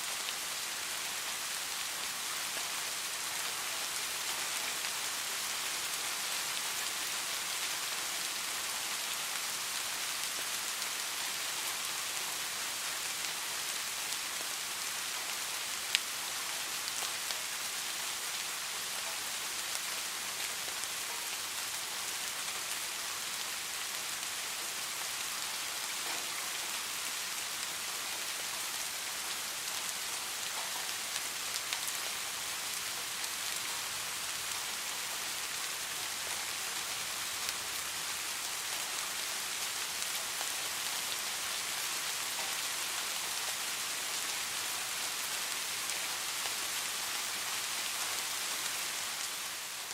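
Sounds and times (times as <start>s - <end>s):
steady rain hiss: 0.0s - 49.9s
raindrops ticking on a surface: 0.3s - 49.9s.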